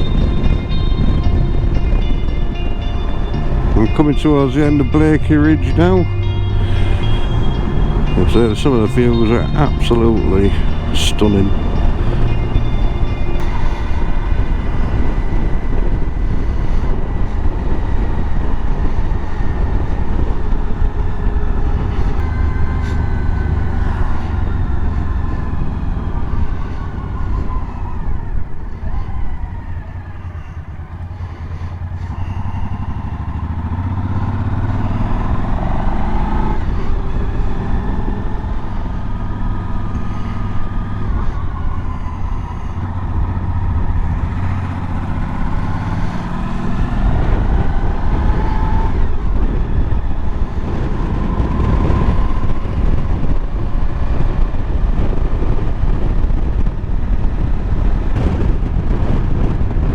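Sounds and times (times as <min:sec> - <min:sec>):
motorcycle engine revving through gears: 0:00.0 - 0:59.9
wind and road noise: 0:00.0 - 0:59.9.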